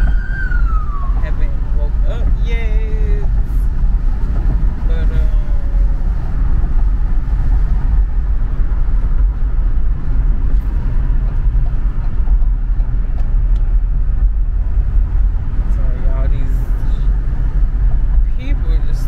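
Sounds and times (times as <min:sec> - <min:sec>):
road rumble inside car: 0:00.0 - 0:19.0.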